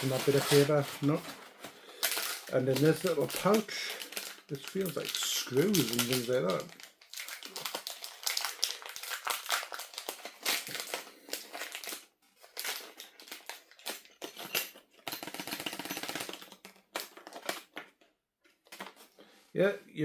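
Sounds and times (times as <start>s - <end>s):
plastic packaging crinkling: 0.0s - 14.3s, 15.8s - 18.0s.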